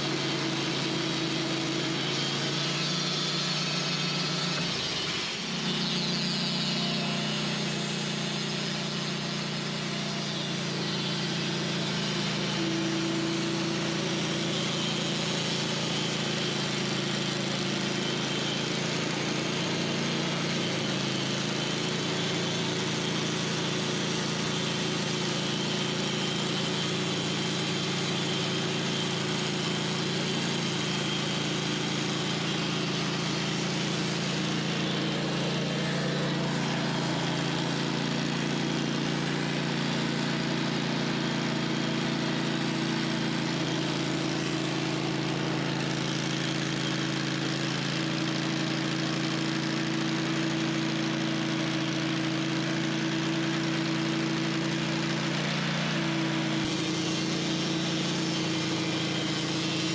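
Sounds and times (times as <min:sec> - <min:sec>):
high saw whine: 0:00.0 - 0:59.9
sawmill engine drone: 0:00.0 - 0:59.9.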